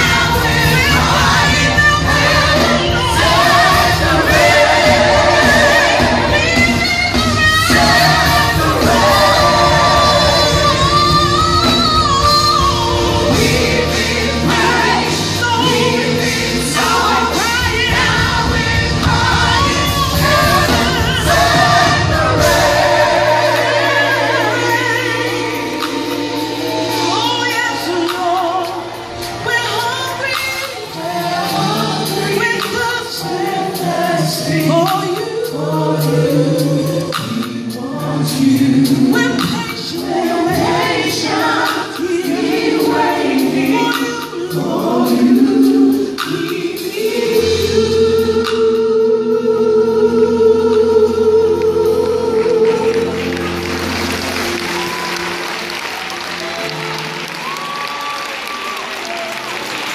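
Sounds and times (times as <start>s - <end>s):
band playing: 0.0s - 59.9s
gospel choir singing: 0.0s - 59.9s.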